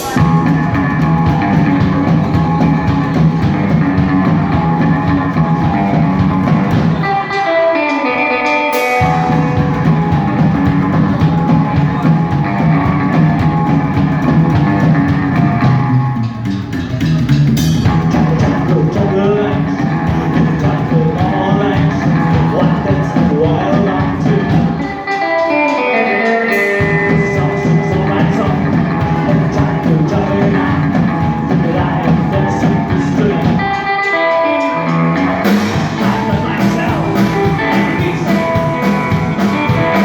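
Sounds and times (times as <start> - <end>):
falling guitar notes: 0.0 - 40.0
rock band playing live: 0.0 - 40.0.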